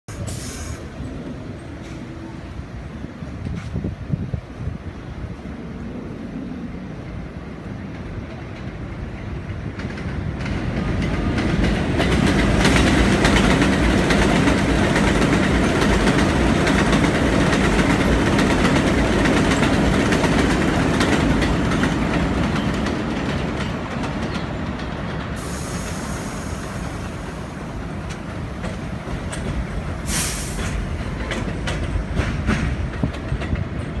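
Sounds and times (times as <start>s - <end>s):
high train squeal: 0.1s - 5.4s, 10.7s - 34.0s
train rumble and wheel clatter: 0.1s - 34.0s.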